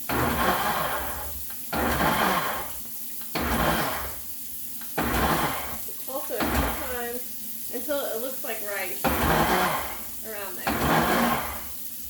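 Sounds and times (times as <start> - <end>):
blender pulsing: 0.0 - 12.0
water churning: 0.0 - 12.0.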